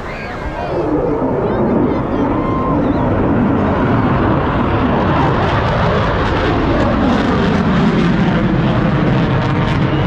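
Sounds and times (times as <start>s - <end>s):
fighter jet flying overhead: 0.0s - 10.0s.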